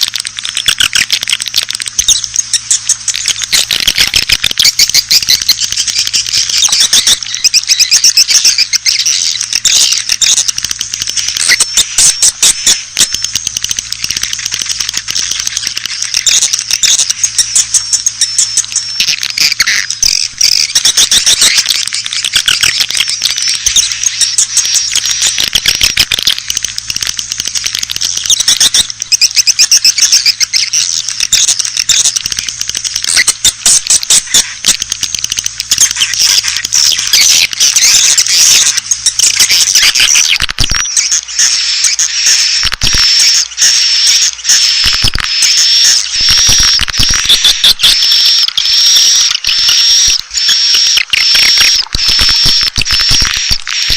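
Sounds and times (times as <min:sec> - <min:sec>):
swiftlets twittering and chirping: 0:00.0 - 0:53.9.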